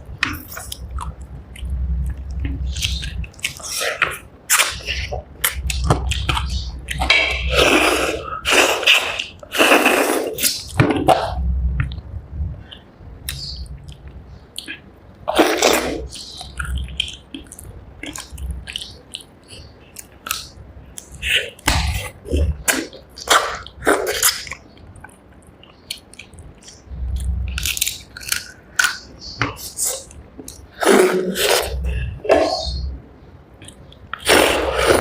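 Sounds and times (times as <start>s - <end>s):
chewing with mouth smacks: 0.2s - 12.0s, 12.7s - 32.9s.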